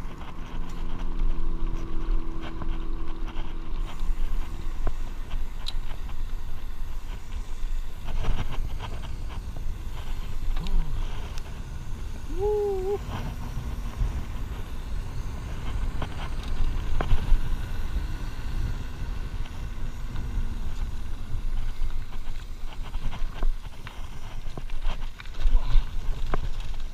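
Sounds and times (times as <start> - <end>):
bike clicks and rattles: 0.0 - 26.9
bike tires rumbling on pavement: 0.0 - 26.9.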